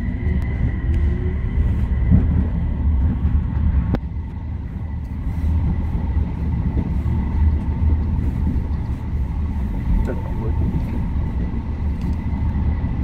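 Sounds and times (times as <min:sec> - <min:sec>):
faint whine: 0:00.0 - 0:13.0
train low rumble: 0:00.0 - 0:13.0.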